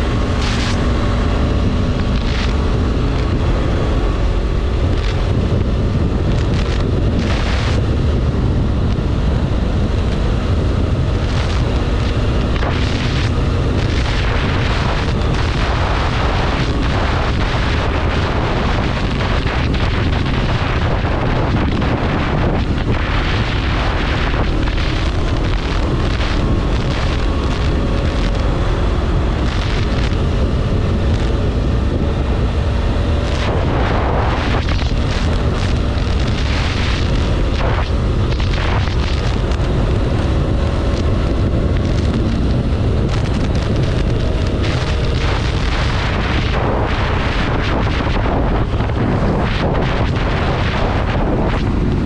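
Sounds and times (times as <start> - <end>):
motorcycle engine running: 0.0 - 52.0
wind buffeting microphone: 0.0 - 52.0.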